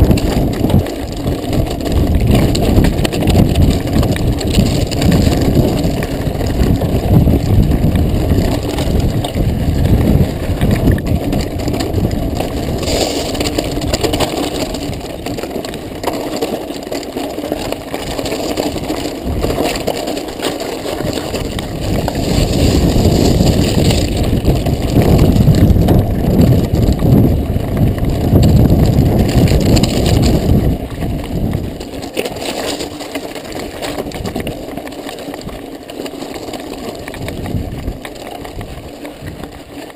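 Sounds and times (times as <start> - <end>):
bike rattling: 0.0 - 39.9
bike tyres crunching on gravel: 0.0 - 39.9.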